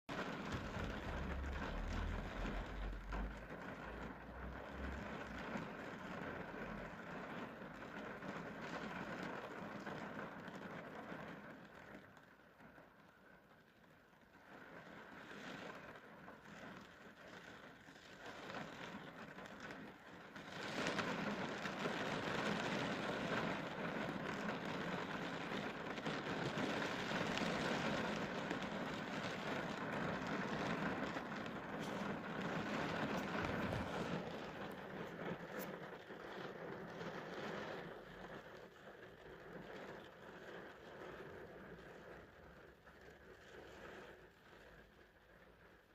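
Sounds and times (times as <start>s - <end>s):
rain falling: 0.1s - 13.3s, 14.0s - 45.9s.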